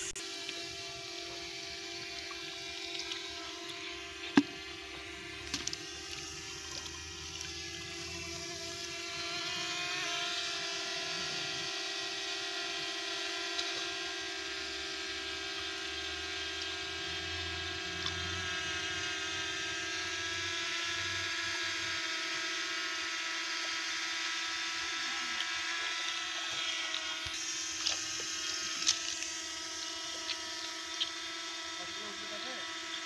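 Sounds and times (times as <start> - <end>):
mechanical whine: 0.0 - 33.0.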